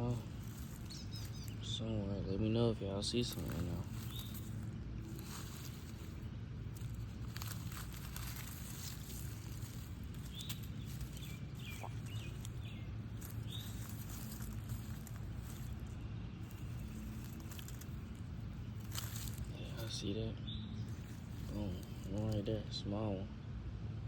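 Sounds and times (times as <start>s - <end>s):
digging in damp soil: 0.0s - 22.8s
steady low rumble: 0.0s - 24.0s.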